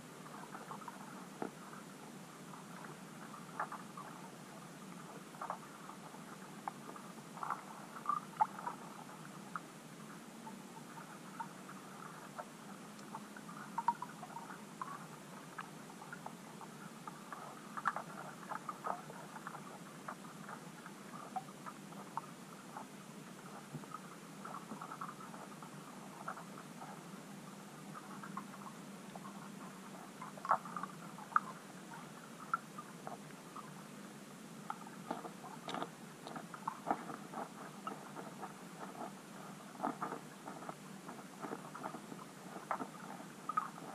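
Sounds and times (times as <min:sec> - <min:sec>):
low hum and hiss: 0:00.0 - 0:43.9
small underwater clicks: 0:00.2 - 0:09.7, 0:10.4 - 0:43.9.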